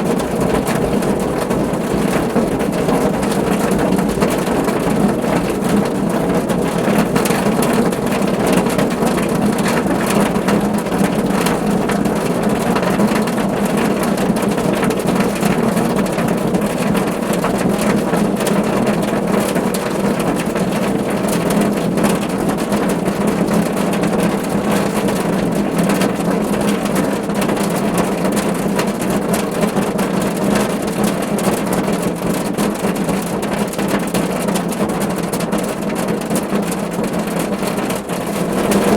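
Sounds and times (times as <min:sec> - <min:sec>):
rain on a car roof: 0:00.0 - 0:38.9.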